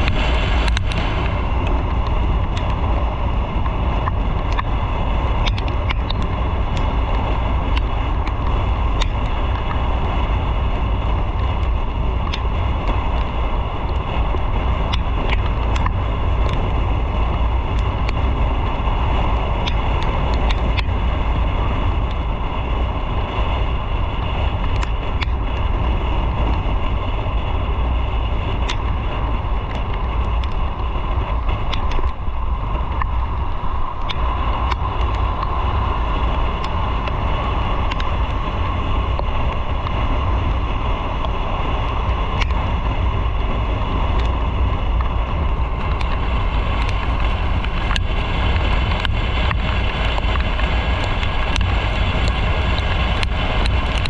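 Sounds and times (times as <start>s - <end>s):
light ticks: 0.0s - 3.0s, 3.6s - 4.8s, 5.4s - 10.4s, 11.1s - 16.8s, 17.4s - 22.3s, 23.3s - 27.0s, 28.4s - 54.0s
motorcycle engine running: 0.0s - 54.0s
road noise: 0.0s - 54.0s
wind rushing on microphone: 0.0s - 54.0s.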